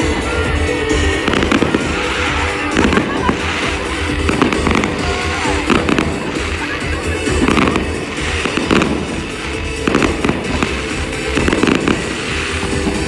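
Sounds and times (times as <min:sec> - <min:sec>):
music from speakers: 0:00.0 - 0:13.0
fireworks bangs: 0:00.9 - 0:13.0.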